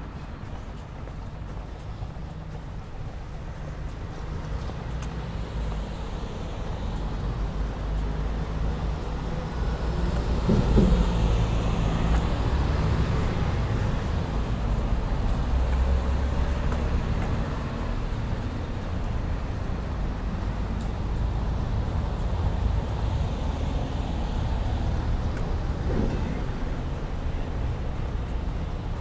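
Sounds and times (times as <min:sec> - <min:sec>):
street traffic rumbling: 0:00.0 - 0:29.0.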